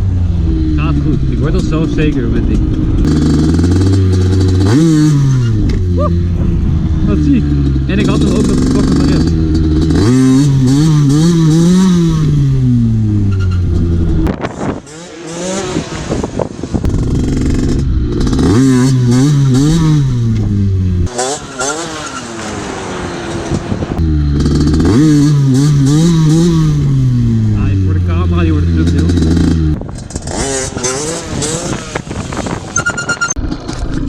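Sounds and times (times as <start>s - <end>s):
two-stroke motorcycle revving: 0.0s - 34.0s.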